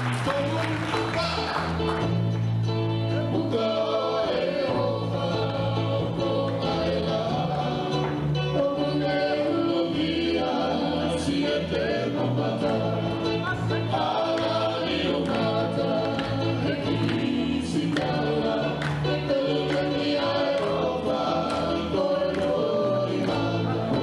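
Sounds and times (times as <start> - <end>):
group of voices singing: 0.0 - 24.0
live instrumental accompaniment: 0.0 - 24.0
sustained bass notes: 0.0 - 24.0.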